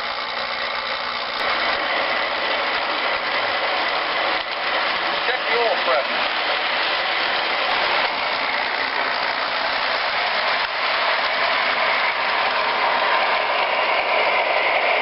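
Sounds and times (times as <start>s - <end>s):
model train motor whirring: 0.0s - 15.0s.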